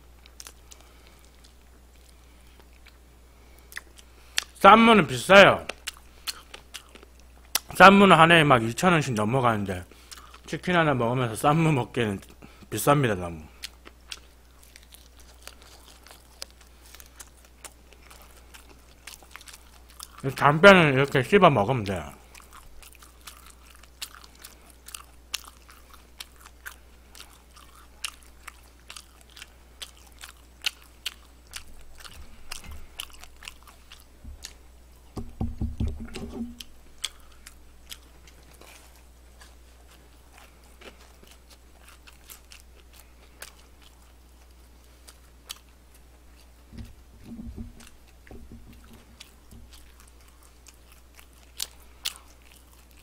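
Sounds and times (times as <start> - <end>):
crunching fried chicken: 0.1 - 8.2, 12.1 - 53.0.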